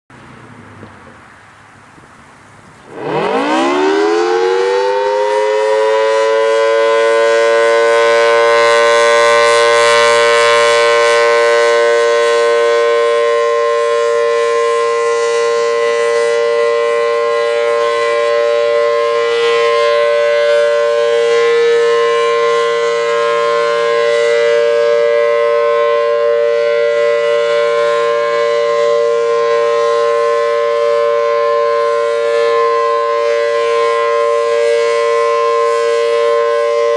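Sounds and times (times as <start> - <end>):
warning siren two-tone chord: 2.9 - 36.9.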